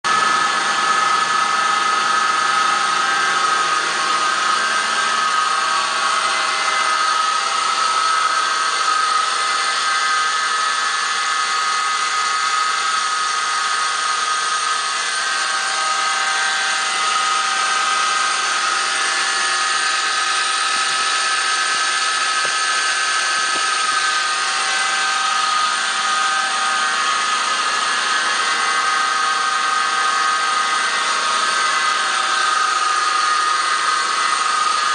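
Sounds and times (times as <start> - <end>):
high-pitched whine: 0.1 - 34.9.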